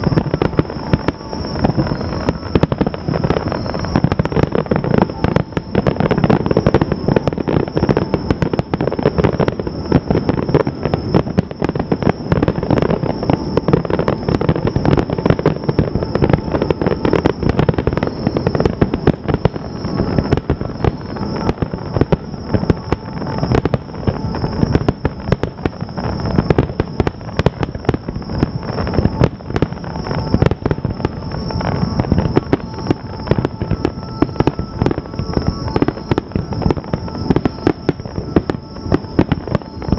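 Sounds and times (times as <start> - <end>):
fireworks bursting and crackling: 0.0 - 39.9
high thin tone: 0.0 - 39.9.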